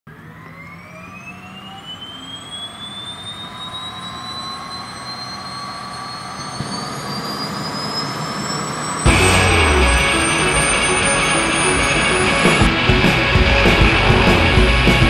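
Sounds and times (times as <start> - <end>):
propeller drone: 0.1 - 7.6, 8.3 - 15.0
turboprop engine whine: 0.1 - 15.0.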